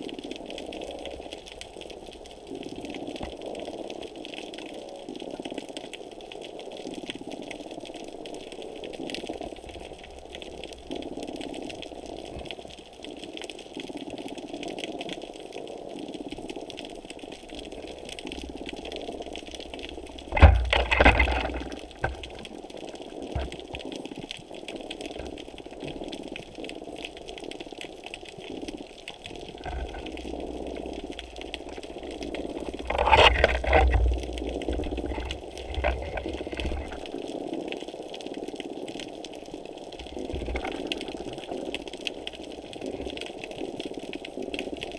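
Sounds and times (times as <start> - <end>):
muffled underwater water wash: 0.0 - 44.9.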